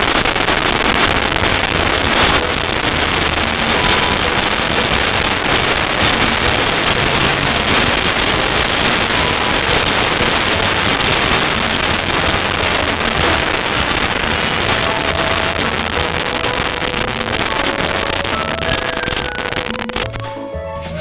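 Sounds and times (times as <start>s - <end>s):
firework crackling hiss: 0.0s - 20.2s.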